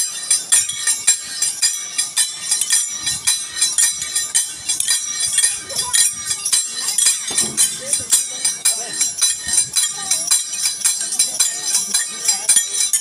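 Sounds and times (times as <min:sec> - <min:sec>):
hand cymbals clashing: 0:00.0 - 0:13.0.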